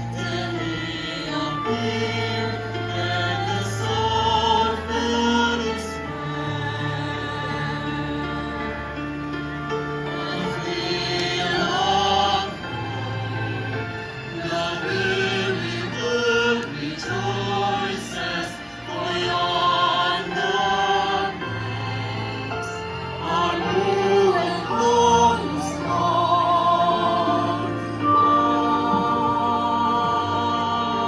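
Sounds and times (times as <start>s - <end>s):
choir singing a hymn: 0.0s - 31.0s
instrumental accompaniment with bass: 0.0s - 31.0s.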